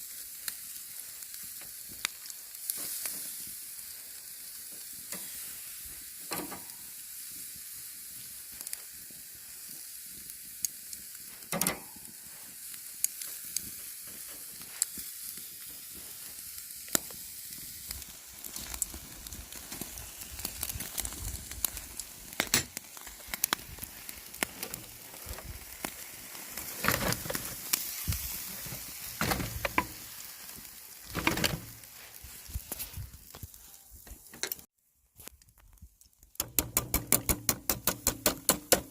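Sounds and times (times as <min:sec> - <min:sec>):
meat sizzling on a grill: 0:00.0 - 0:34.7, 0:36.3 - 0:38.9.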